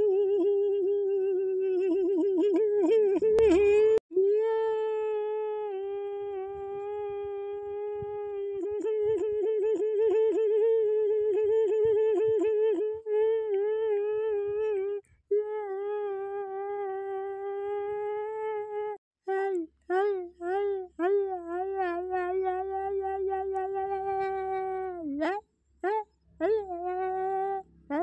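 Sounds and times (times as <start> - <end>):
person humming a long note: 0.0 - 28.0.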